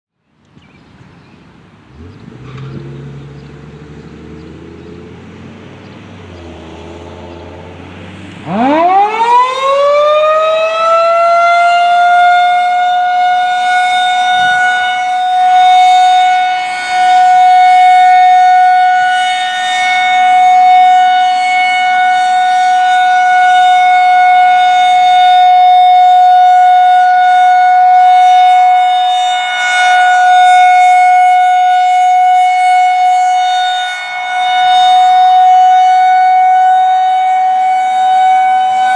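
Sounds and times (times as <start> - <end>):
outdoor warning siren: 2.0 - 38.9.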